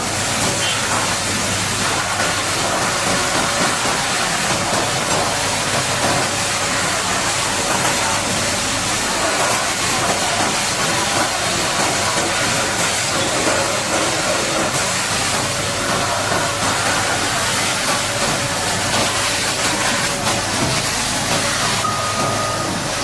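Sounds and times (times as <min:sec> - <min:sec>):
high-pressure water jet hissing: 0:00.0 - 0:23.0.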